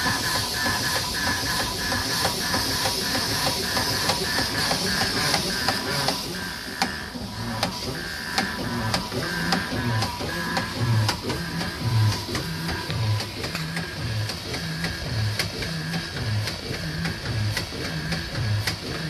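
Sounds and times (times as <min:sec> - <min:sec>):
steam engine running: 0:00.0 - 0:19.0.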